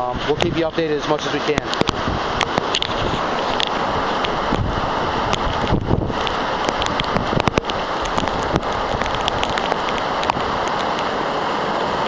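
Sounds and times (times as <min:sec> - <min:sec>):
heavy wind-driven rain: 0:00.0 - 0:12.0
raindrops ticking on camera: 0:01.5 - 0:11.2.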